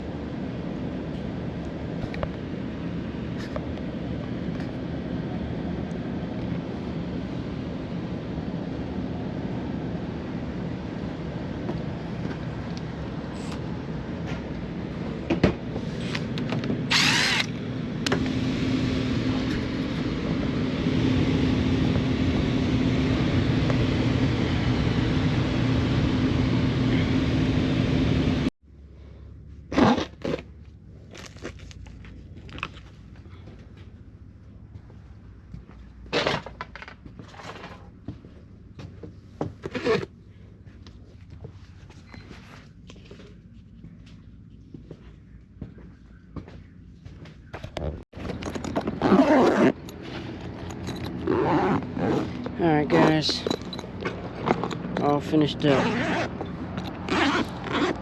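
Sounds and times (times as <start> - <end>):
air conditioning unit humming: 0.0 - 29.7, 30.4 - 58.0.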